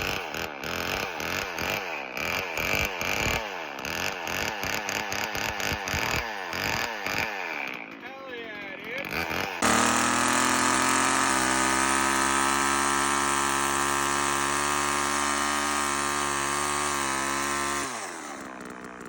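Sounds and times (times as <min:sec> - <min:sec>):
chainsaw idling fast: 0:00.0 - 0:19.0.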